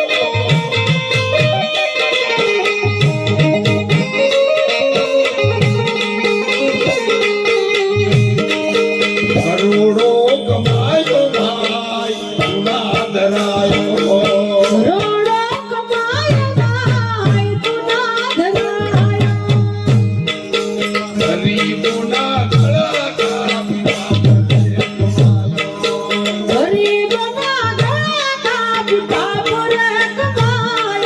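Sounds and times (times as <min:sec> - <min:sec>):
tabla drumming: 0:00.0 - 0:31.0.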